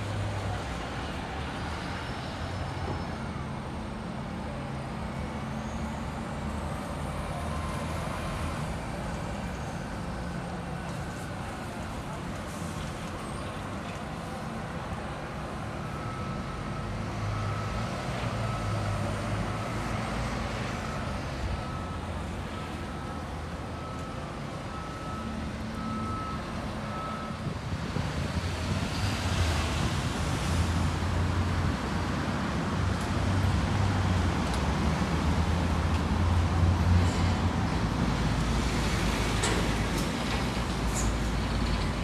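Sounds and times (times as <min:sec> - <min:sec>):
city street traffic: 0:00.0 - 0:42.0.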